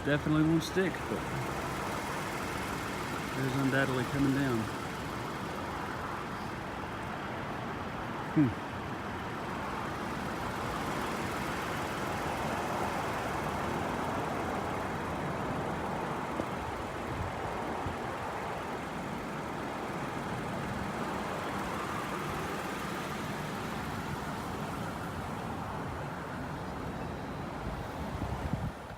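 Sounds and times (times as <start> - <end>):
distant road traffic: 0.0 - 28.9
light wind: 0.0 - 28.9.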